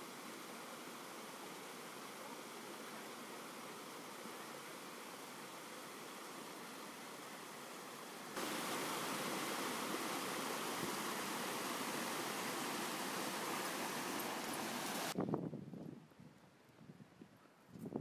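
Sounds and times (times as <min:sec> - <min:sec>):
rushing stream water: 0:00.0 - 0:15.2.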